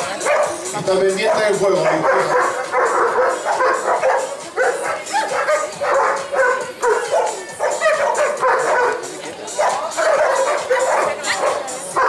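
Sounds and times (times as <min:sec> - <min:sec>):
dog barking: 0:00.2 - 0:00.6, 0:01.2 - 0:12.0.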